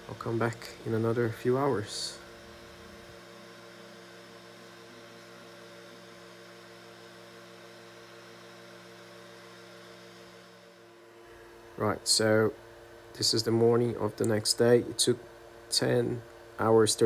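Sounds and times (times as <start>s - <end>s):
printer motor humming: 0.0s - 15.2s.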